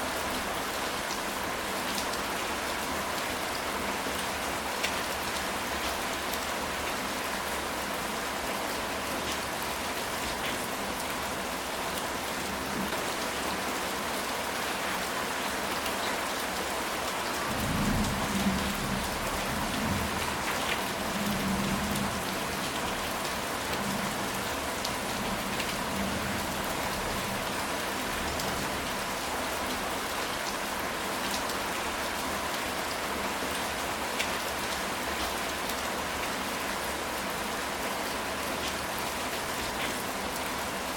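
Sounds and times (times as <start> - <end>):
heavy rain on a tile roof: 0.0 - 40.9.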